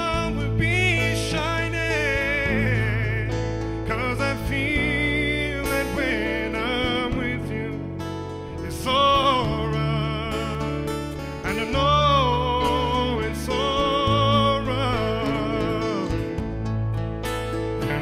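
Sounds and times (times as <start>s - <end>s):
man singing with vibrato: 0.0s - 16.7s, 17.5s - 18.0s.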